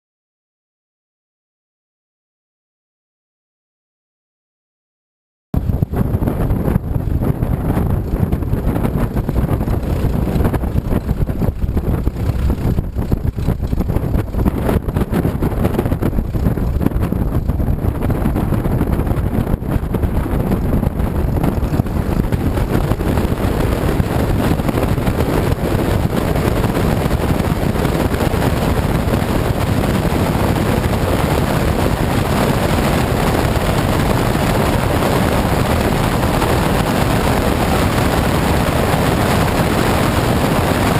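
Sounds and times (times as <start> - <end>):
propeller aircraft engine: 5.6 - 40.9
wind buffeting microphone: 5.6 - 40.9.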